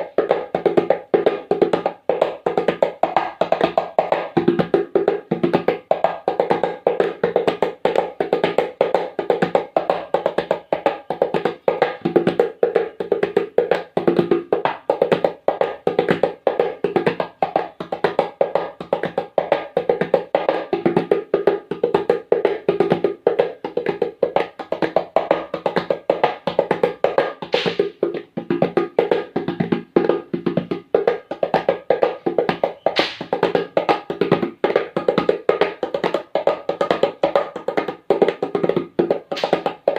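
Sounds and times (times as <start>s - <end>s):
hand percussion fast rhythm: 0.0s - 39.9s.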